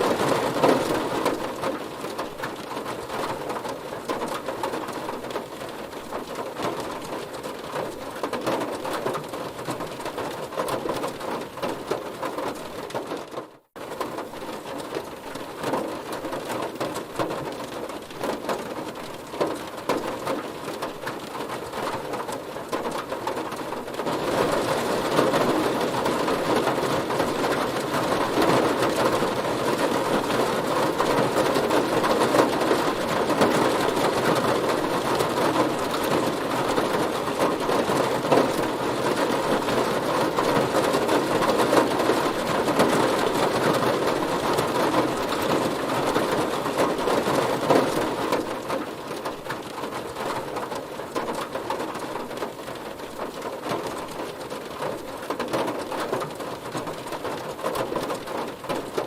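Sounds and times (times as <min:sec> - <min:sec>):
heavy rain on a car: 0:00.0 - 0:59.0.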